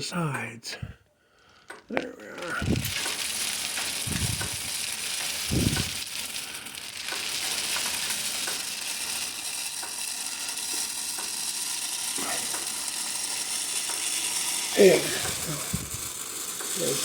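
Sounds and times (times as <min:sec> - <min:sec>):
feed pouring into a feeder: 0:02.4 - 0:17.0.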